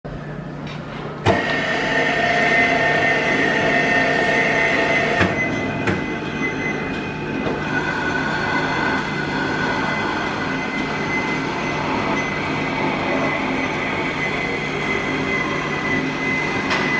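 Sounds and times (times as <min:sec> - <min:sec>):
band saw running: 0:01.3 - 0:16.9.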